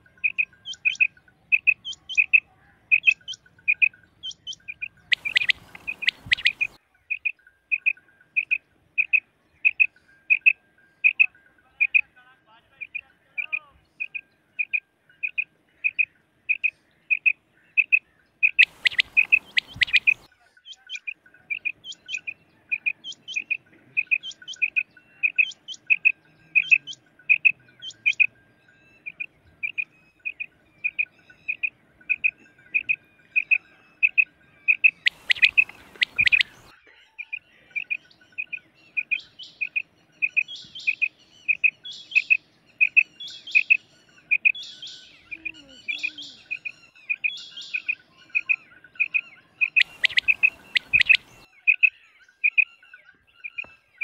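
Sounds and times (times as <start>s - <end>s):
quail chirps: 0.0s - 12.1s, 12.7s - 53.8s.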